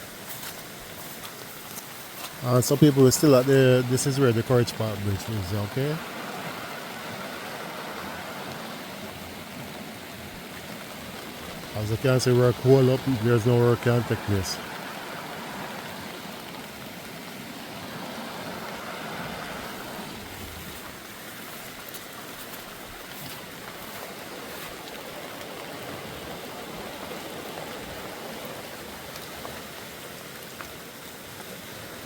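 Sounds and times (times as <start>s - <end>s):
rushing river water: 0.0s - 32.0s.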